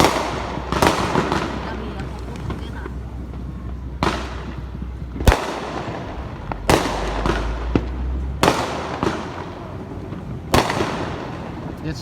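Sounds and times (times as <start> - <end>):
small firecracker pops: 0.0 - 11.8
firecracker bangs echoing: 0.0 - 12.0.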